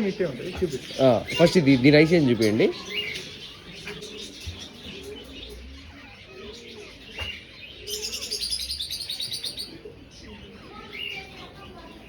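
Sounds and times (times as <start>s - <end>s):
birds chirping: 0.0s - 12.0s
pigeons cooing: 0.0s - 12.0s.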